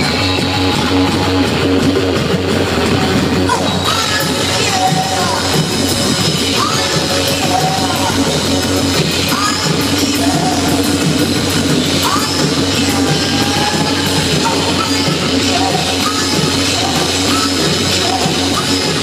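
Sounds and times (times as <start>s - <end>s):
bass guitar: 0.0s - 19.0s
drum kit: 0.0s - 19.0s
electric guitars: 0.0s - 19.0s
person singing: 3.1s - 19.0s.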